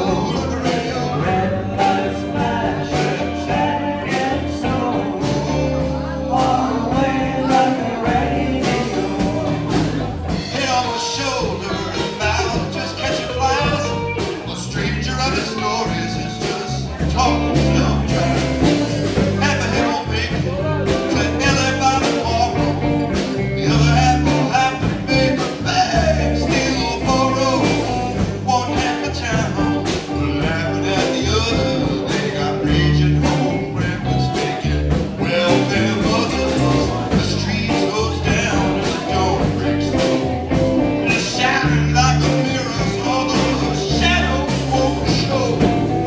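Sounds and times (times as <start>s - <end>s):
bass guitar notes: 0.0s - 46.0s
person singing: 0.0s - 46.0s
rock band playing: 0.0s - 46.0s.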